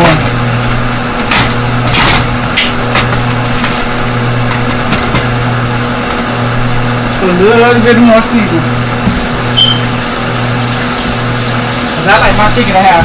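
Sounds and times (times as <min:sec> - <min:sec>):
stove fan motor hum: 0:00.0 - 0:13.0.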